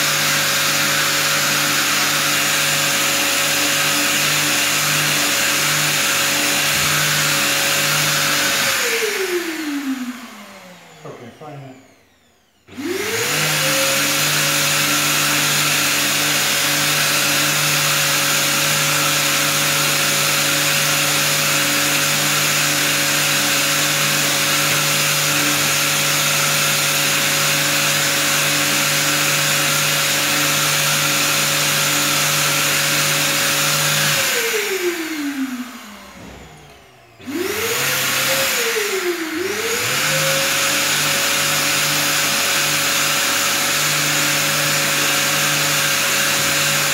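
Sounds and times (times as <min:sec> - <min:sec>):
power sander whining: 0:00.0 - 0:46.9.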